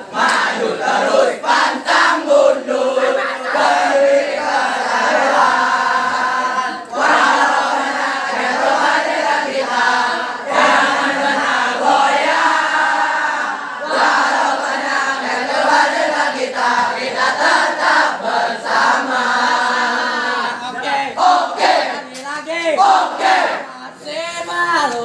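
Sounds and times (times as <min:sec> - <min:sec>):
boys chanting in unison: 0:00.0 - 0:25.0.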